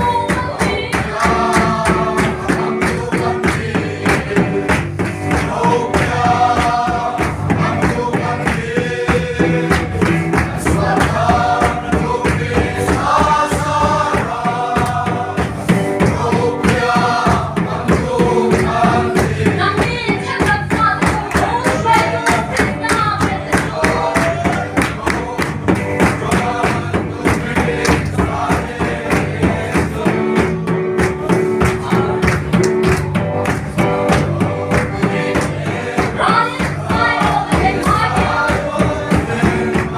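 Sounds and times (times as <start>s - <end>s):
song with voices and instruments: 0.0s - 39.9s.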